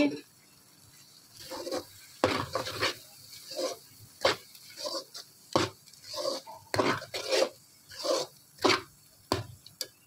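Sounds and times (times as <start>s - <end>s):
metal spatula scraping pan: 1.0s - 9.5s.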